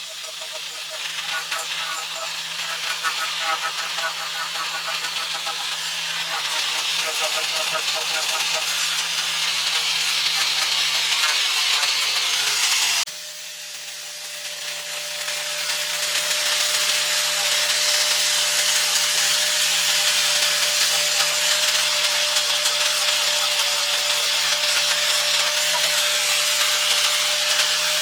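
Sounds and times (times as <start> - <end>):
power tool cutting wood: 0.0 - 28.0.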